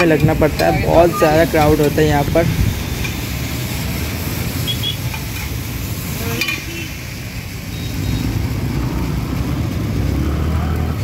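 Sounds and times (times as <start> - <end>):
low street noise: 0.0 - 11.0
noodles sizzling on griddle: 0.0 - 11.0.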